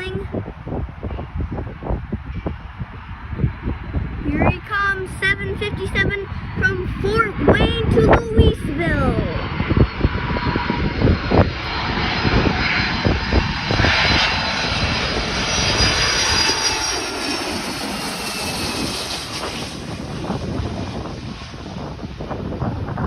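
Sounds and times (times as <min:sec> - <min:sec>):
jet airliner passing overhead: 0:00.0 - 0:23.0.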